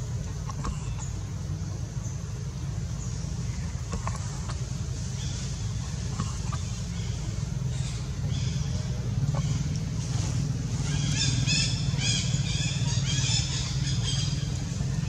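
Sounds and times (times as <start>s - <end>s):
low engine-like rumble: 0.0s - 15.0s.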